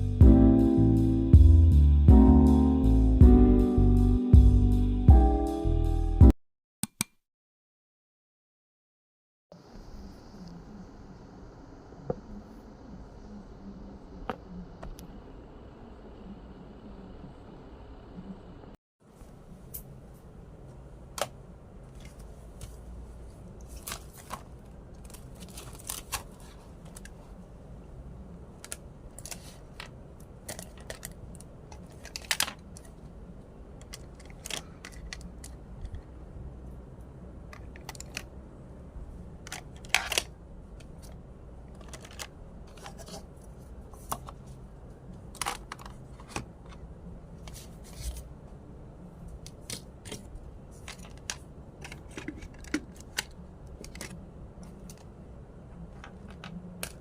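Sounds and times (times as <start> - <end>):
low steady hum: 9.6 - 57.0.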